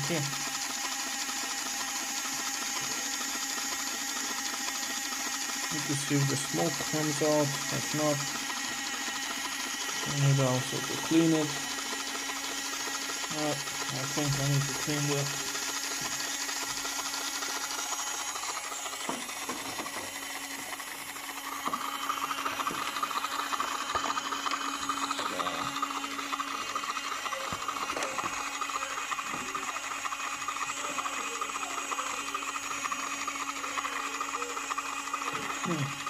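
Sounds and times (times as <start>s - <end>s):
high whir: 0.0s - 36.0s.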